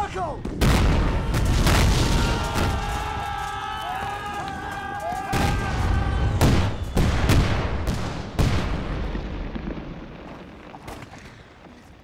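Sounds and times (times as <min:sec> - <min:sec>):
shelling explosions: 0:00.4 - 0:11.5.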